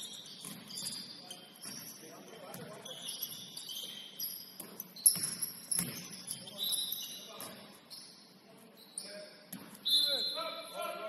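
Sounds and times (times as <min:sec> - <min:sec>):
sneakers squeaking on hardwood: 0:00.0 - 0:09.9.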